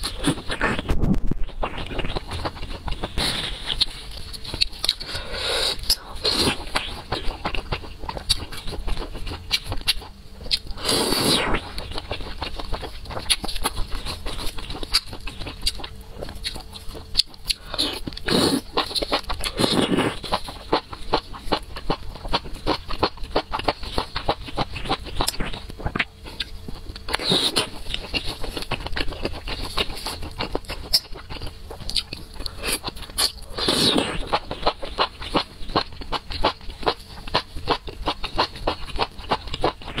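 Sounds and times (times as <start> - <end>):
wet chewing and mouth clicks: 0.0 - 10.8, 11.5 - 40.0.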